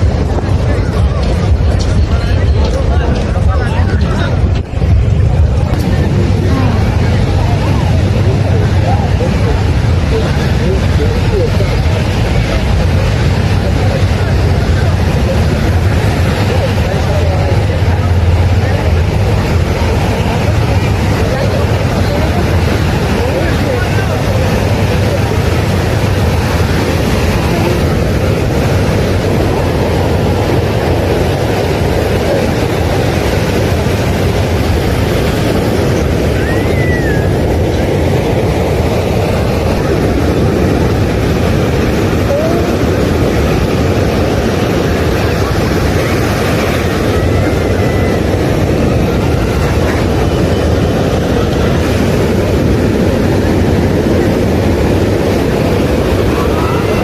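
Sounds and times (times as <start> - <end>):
faint distant voices: 0.0 - 57.0
surf: 0.0 - 57.0
wind rushing over microphone: 0.0 - 57.0.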